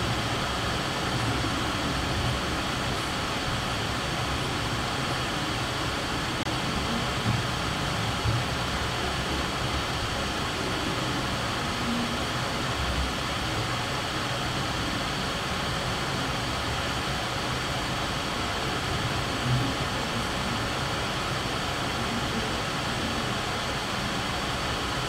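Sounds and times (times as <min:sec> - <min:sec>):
room noise hiss: 0:00.0 - 0:25.0.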